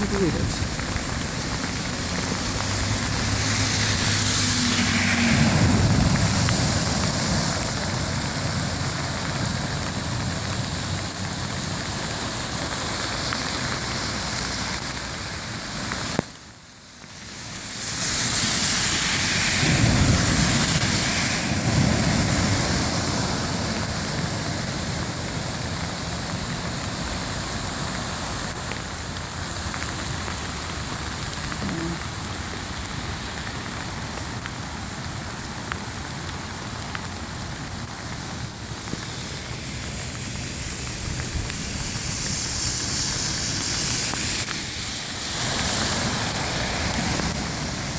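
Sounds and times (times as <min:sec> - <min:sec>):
heavy rain and running water: 0:00.0 - 0:47.9.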